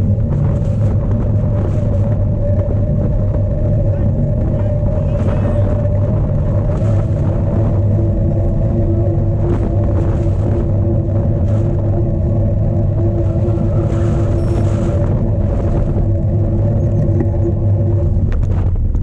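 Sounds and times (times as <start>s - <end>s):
steady hum: 0.0s - 19.0s
wind buffeting microphone: 0.0s - 19.0s.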